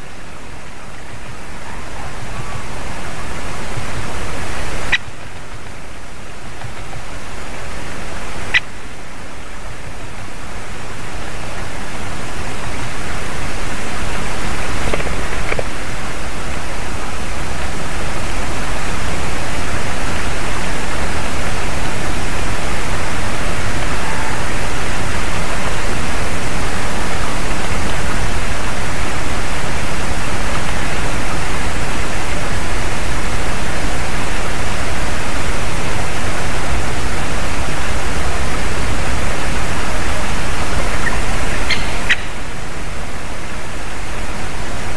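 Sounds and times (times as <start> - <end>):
loud steady rushing noise: 0.0 - 44.9.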